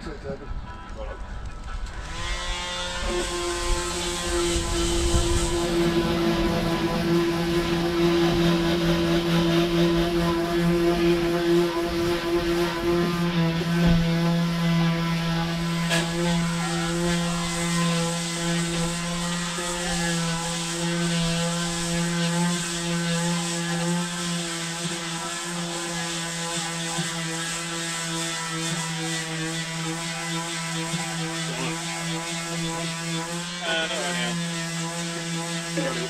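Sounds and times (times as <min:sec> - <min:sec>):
electric power sander running: 0:01.2 - 0:36.0.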